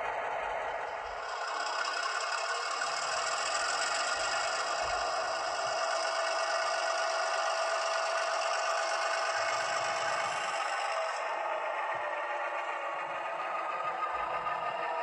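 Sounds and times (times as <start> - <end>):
simulated diesel engine through small speaker: 0.0 - 15.0.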